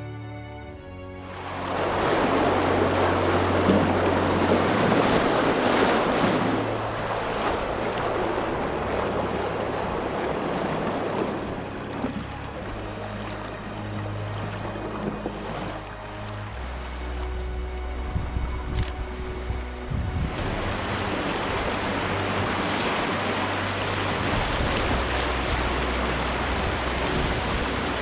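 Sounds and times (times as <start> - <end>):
whitewater rushing: 1.2 - 28.0
wind rumble on microphone: 1.6 - 28.0.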